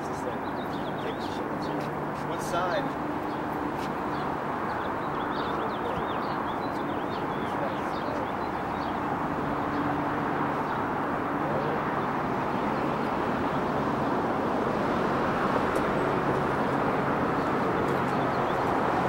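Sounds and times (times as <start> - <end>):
city traffic noise: 0.0 - 19.0.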